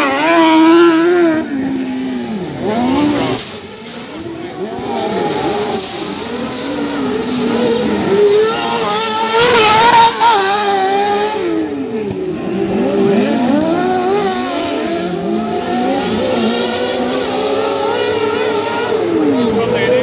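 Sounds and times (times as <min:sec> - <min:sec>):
racing car engines revving: 0:00.0 - 0:20.0.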